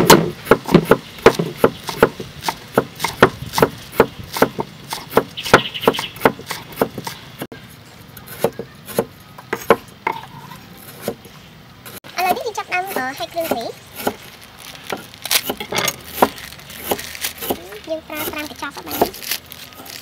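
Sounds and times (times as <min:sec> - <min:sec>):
knife chopping on wooden board: 0:00.0 - 0:07.2, 0:08.3 - 0:10.2, 0:10.9 - 0:11.3, 0:11.9 - 0:14.3, 0:14.9 - 0:19.2.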